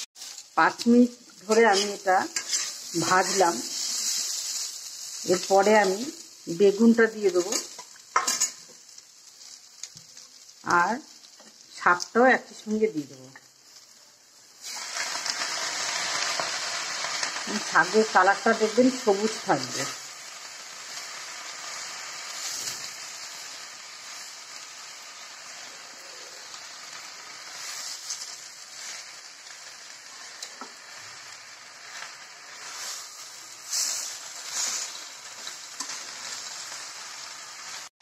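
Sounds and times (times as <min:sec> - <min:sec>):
spatula stirring leaves: 0:00.0 - 0:14.0, 0:14.6 - 0:37.9
vegetables sizzling in hot oil: 0:00.0 - 0:38.0.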